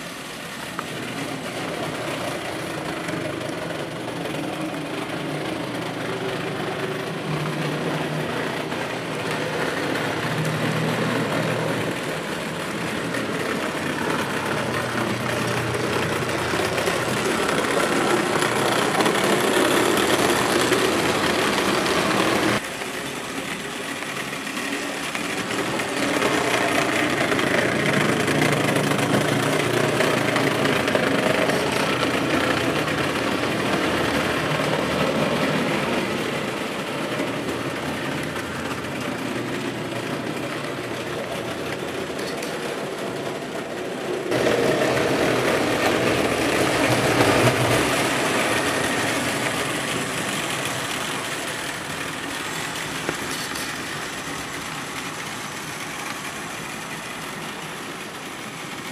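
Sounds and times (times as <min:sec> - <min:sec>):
toy train running on metal rails: 0:00.0 - 0:58.9.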